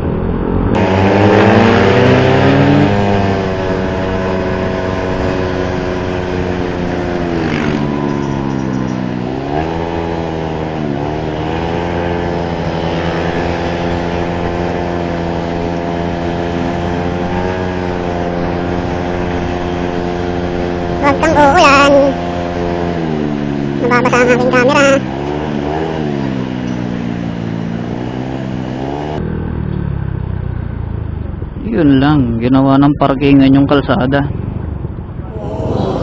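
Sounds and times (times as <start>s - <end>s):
motorcycle engine revving: 0.0s - 21.3s, 22.1s - 31.2s.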